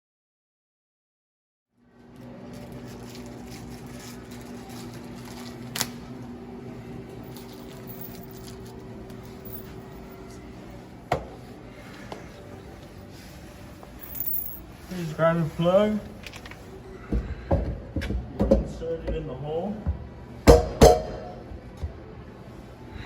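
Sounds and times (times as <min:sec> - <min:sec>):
mechanical equipment hum: 0:01.8 - 0:23.0.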